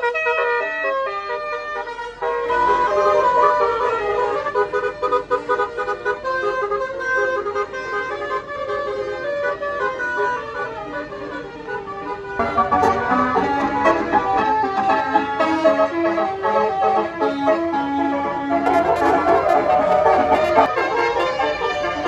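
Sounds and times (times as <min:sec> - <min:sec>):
bus multi-tone musical horn: 0:00.0 - 0:22.0.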